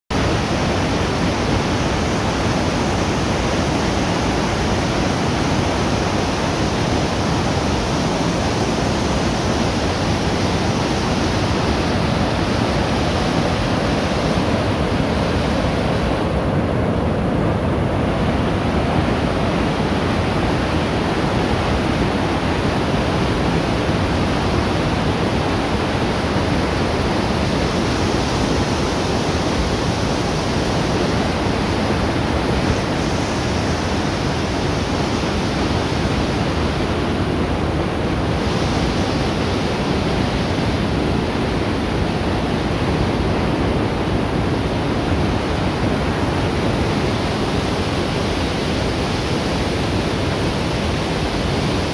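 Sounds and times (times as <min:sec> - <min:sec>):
waterfall roaring: 0:00.1 - 0:51.9.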